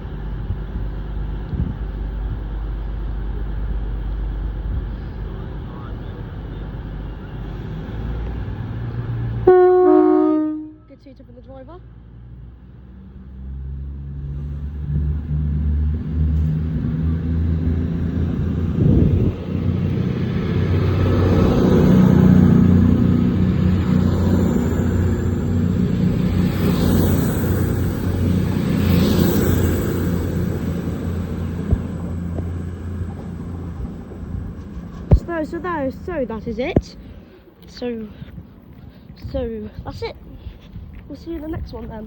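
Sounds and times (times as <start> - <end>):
diesel train engines rumbling: 0.0 - 42.0.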